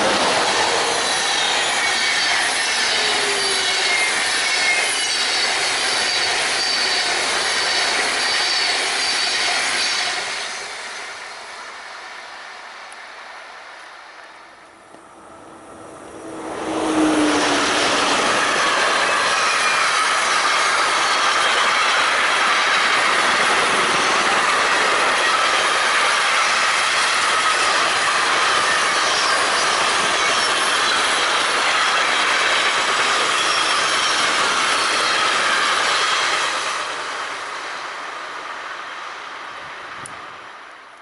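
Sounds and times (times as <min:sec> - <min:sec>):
train wheels rushing on rail: 0:00.0 - 0:41.0.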